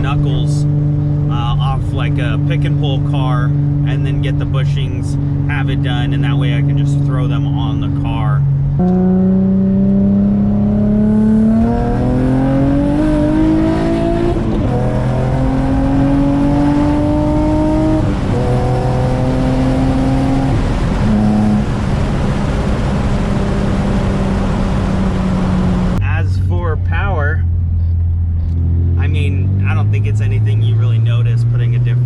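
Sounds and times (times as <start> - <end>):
car engine accelerating through gears: 0.0 - 26.0, 27.4 - 32.0.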